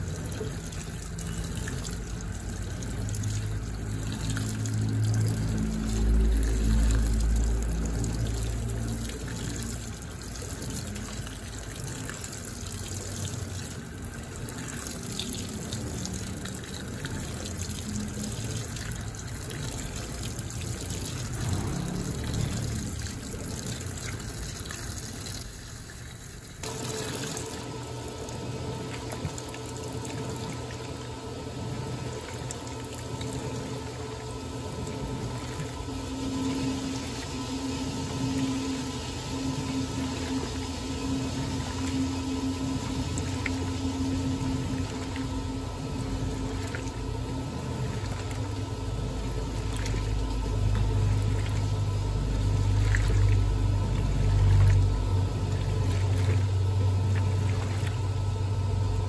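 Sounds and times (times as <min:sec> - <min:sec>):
washing machine motor hum: 0:00.0 - 0:59.0
water pouring into washing machine: 0:00.0 - 0:59.0.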